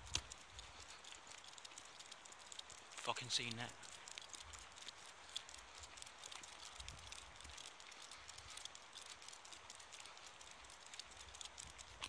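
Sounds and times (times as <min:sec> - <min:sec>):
faint outdoor hiss: 0:00.0 - 0:12.0
small clicks: 0:00.0 - 0:12.0.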